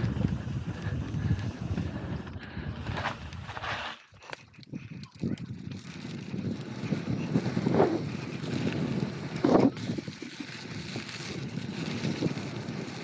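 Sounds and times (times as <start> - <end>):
wind buffeting microphone: 0.0 - 3.6, 4.5 - 13.0
bike rattling: 0.0 - 13.0
bike tyre rumble: 0.0 - 13.0.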